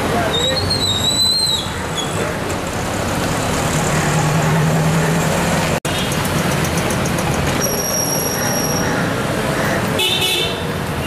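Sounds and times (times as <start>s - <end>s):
street traffic engines: 0.0s - 11.0s.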